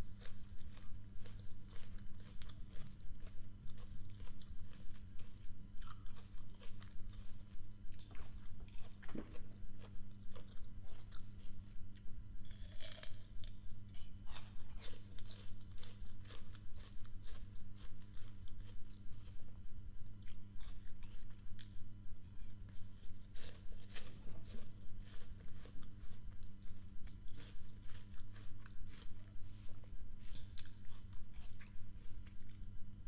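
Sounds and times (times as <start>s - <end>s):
apple crunching chews: 0.0s - 33.0s.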